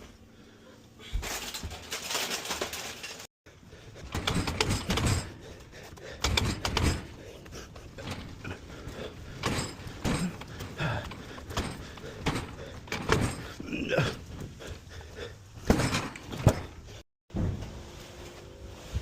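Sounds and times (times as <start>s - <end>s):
knocks and clatter of handling: 1.2s - 14.9s, 15.6s - 17.6s.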